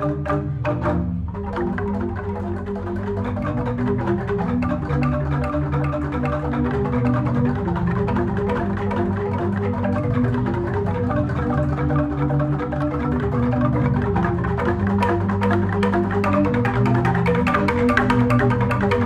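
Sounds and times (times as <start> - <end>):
bamboo xylophone ensemble playing: 0.0 - 19.0.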